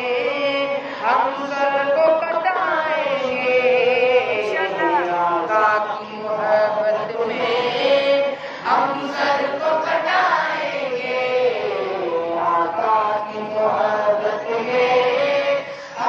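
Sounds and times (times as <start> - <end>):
boy singing: 0.0 - 16.0.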